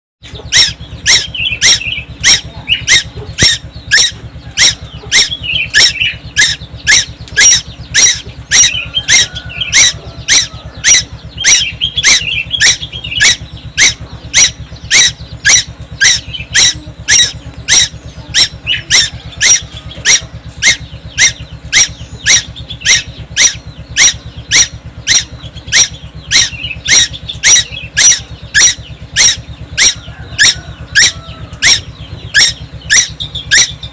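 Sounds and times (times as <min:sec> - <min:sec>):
soft bird chattering: 0:00.2 - 0:33.9
steady low hum: 0:00.2 - 0:33.9.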